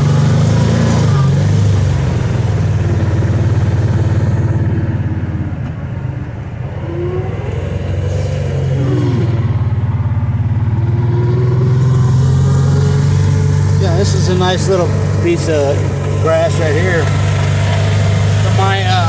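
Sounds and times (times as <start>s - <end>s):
engine running while driving: 0.0s - 19.0s.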